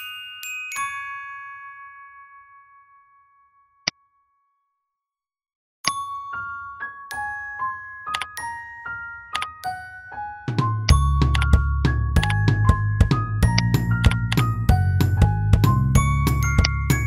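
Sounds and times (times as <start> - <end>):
chiming background music: 0.0 - 4.7, 5.8 - 17.0.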